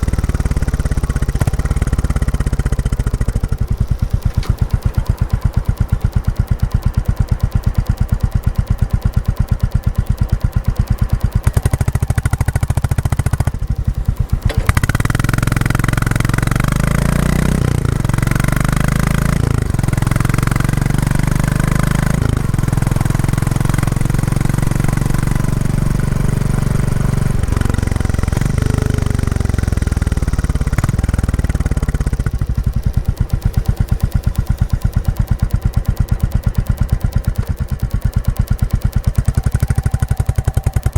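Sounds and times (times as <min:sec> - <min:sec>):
motorcycle engine thumping and revving: 0:00.0 - 0:40.9.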